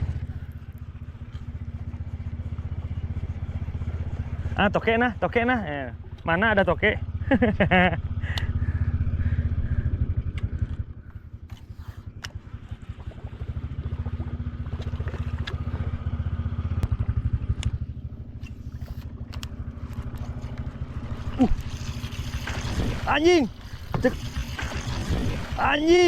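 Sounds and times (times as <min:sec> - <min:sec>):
outboard engine rumbling: 0:00.0 - 0:26.0.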